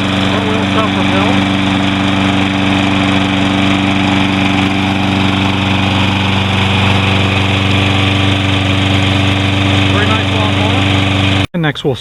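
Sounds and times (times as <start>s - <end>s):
lawn mower engine running: 0.0s - 11.5s.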